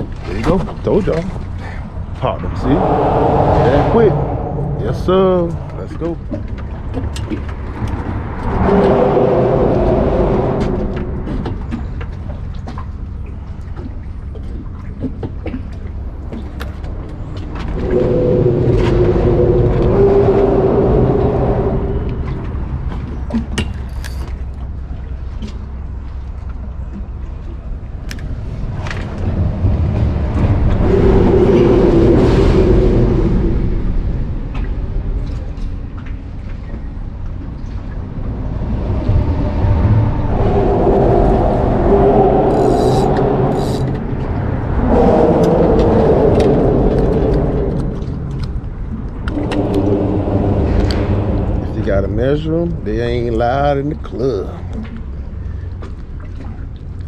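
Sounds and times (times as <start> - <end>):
low background rumble: 0.0 - 57.0
vehicle passing rumble: 0.0 - 57.0.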